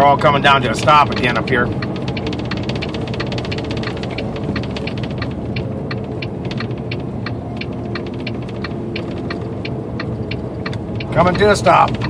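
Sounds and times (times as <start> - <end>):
diesel engine low rumble: 0.0 - 12.0
light regular ticking: 0.0 - 12.0.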